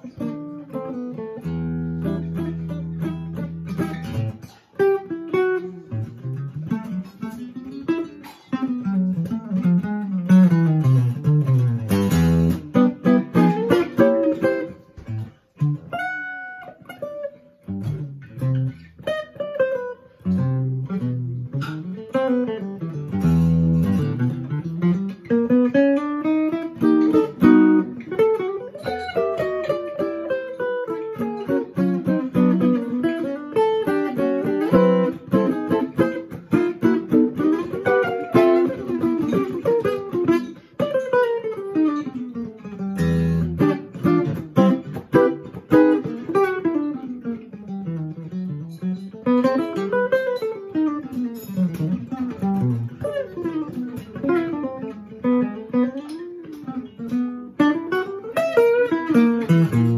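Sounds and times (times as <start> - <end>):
solo jazz guitar: 0.0 - 59.9.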